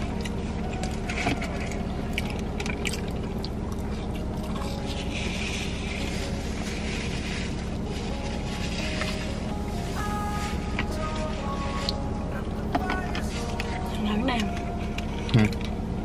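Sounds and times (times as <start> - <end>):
chewing: 0.0 - 9.3, 10.8 - 15.8
low hum of car cabin: 0.0 - 16.0.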